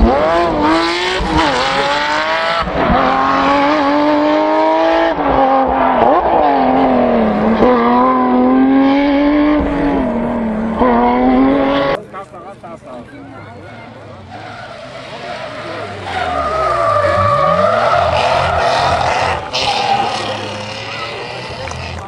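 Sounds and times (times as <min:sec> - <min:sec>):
car engine revving hard: 0:00.0 - 0:12.0, 0:14.8 - 0:22.0.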